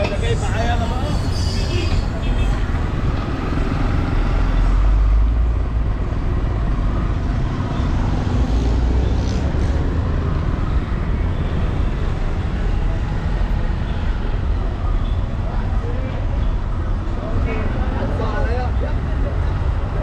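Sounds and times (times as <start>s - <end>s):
vehicles passing close by: 0.0s - 20.0s.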